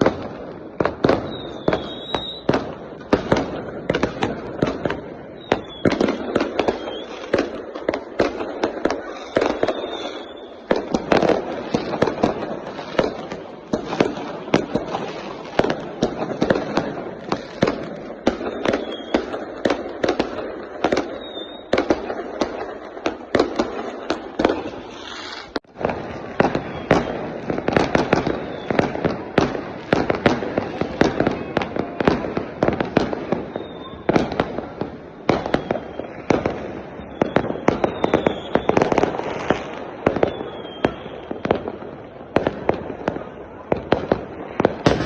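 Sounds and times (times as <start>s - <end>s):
fireworks bangs: 0.0s - 45.0s
fireworks crackling rumble: 0.0s - 45.0s.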